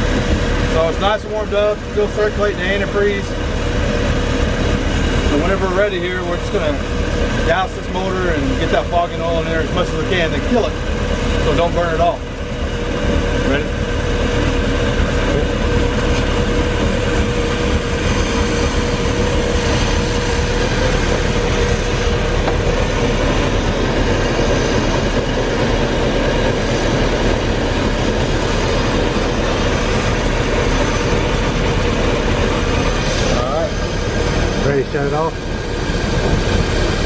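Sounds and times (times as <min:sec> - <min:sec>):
boat engine idling: 0:00.0 - 0:37.0.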